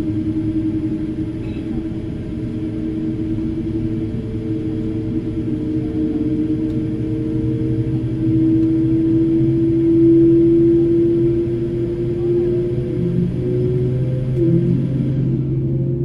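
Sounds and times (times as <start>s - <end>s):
humming tone: 0.0s - 16.0s
jet engine starting up: 0.0s - 16.0s.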